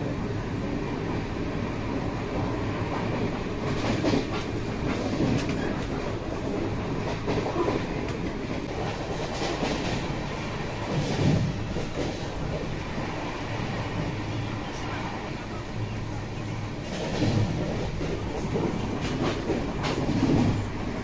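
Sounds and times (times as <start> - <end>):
train wheels rumbling on rails: 0.0 - 21.0
rail joint clicks: 0.9 - 21.0.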